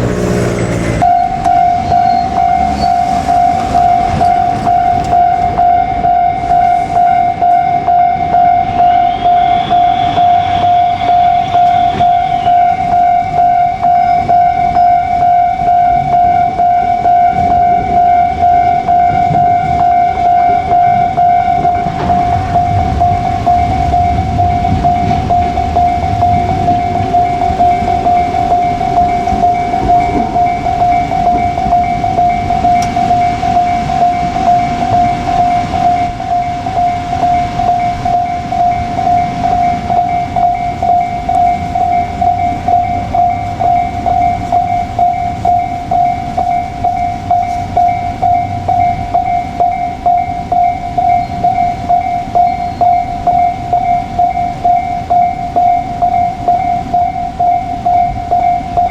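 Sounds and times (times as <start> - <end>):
train rumbling past: 0.0 - 15.2, 17.3 - 56.0
level crossing warning bell: 0.0 - 58.9.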